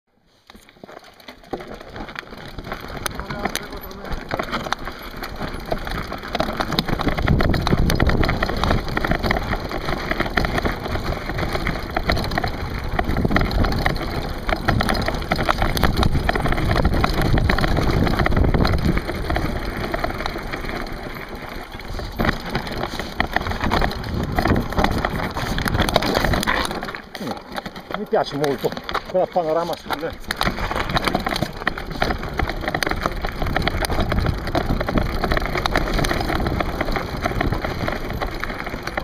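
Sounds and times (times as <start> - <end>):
bike tyres crunching over rocks: 0.3 - 39.0.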